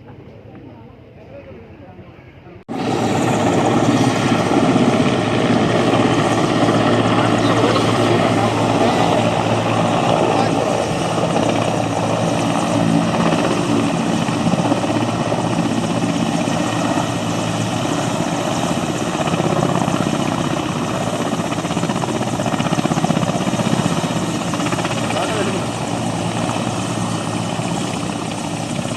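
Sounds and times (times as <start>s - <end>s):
helicopter engine drone: 2.7s - 28.9s
helicopter rotor beating: 2.7s - 28.9s.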